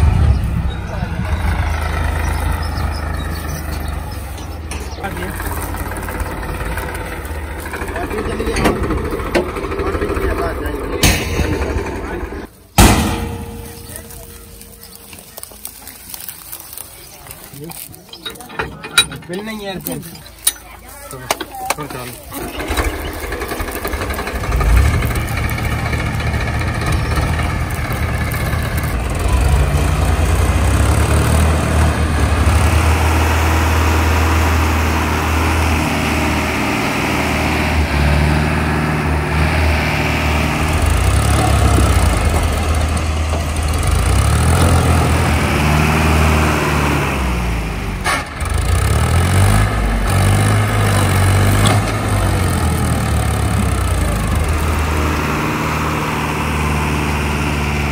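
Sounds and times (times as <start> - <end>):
tractor diesel engine revving: 0.0 - 57.9.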